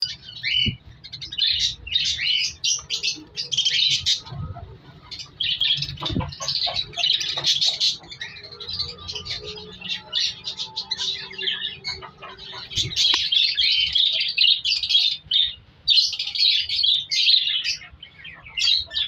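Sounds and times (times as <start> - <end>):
budgerigars chattering: 0.0 - 19.0.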